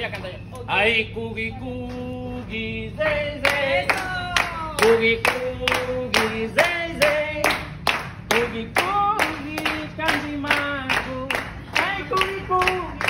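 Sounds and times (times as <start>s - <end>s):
group clapping in rhythm: 1.8s - 13.0s.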